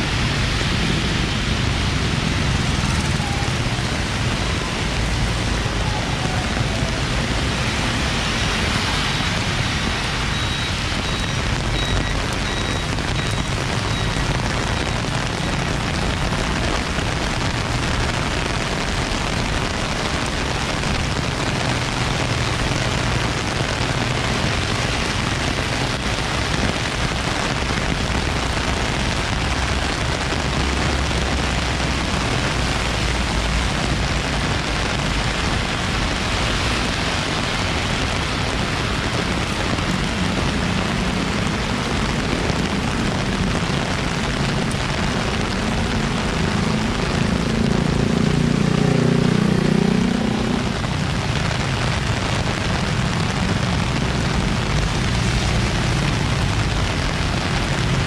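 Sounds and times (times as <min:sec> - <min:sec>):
car tyres on wet road: 0:00.0 - 0:58.0
heavy rain hissing: 0:00.0 - 0:58.0.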